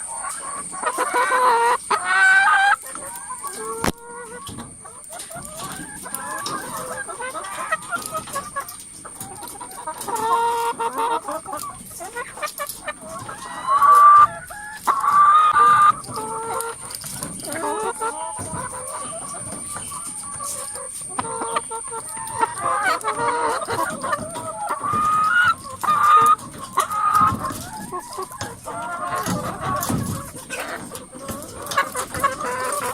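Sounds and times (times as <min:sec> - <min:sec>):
hens clucking: 0:00.0 - 0:32.9.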